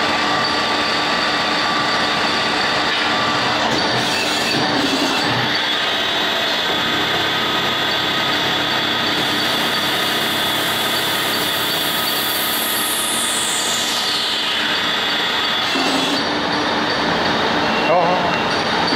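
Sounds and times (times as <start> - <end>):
lathe machining din: 0.0 - 18.9.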